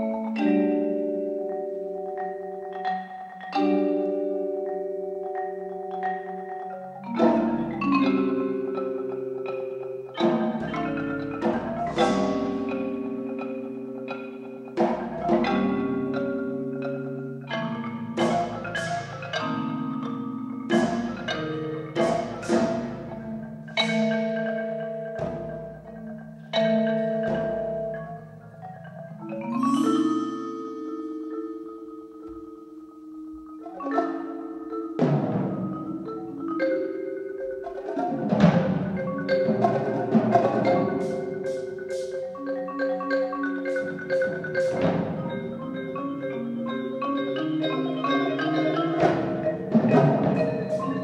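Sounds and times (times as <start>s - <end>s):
marimba played with mallets: 0.0s - 51.0s
percussion ensemble: 0.0s - 51.0s.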